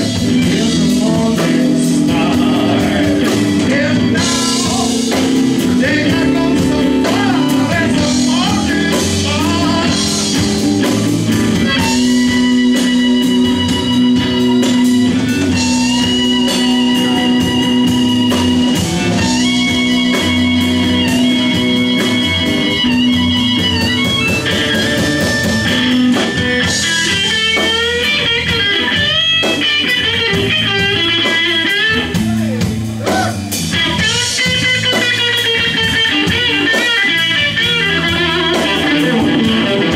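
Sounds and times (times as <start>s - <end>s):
bass guitar: 0.0s - 39.9s
drums: 0.0s - 39.9s
electric guitar: 0.0s - 39.9s
amplified harmonica: 3.8s - 39.9s.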